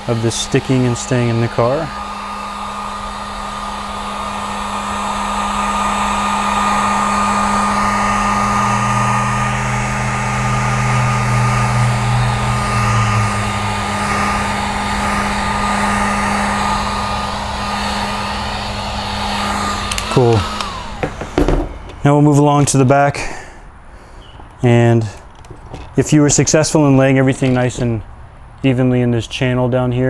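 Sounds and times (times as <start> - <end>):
heat gun blowing: 0.0 - 26.0.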